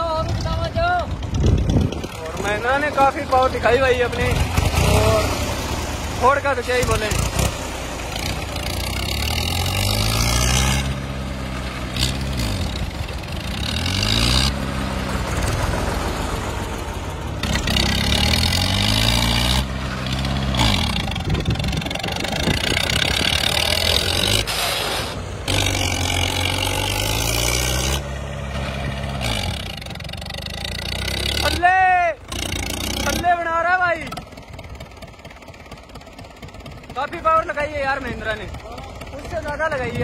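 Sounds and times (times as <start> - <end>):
diesel tractor engine revving: 0.0 - 40.0.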